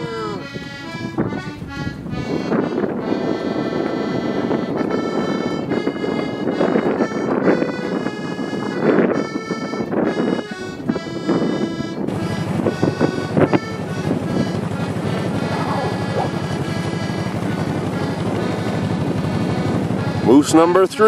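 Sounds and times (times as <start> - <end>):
background music with held chords: 0.0 - 21.0.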